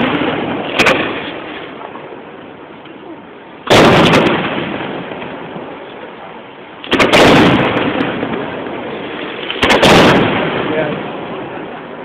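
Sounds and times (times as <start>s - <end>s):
firework bangs with rolling echo: 0.0s - 2.3s, 3.6s - 12.0s.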